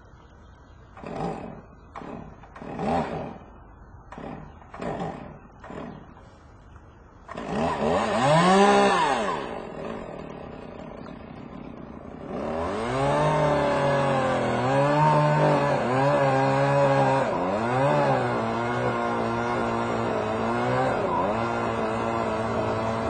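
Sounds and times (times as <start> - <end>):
chainsaw revving: 0.9 - 6.4, 7.2 - 23.0.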